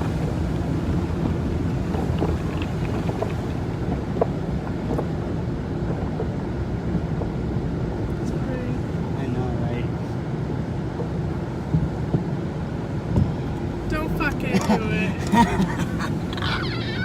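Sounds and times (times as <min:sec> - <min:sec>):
car wash rumbling: 0:00.0 - 0:17.0.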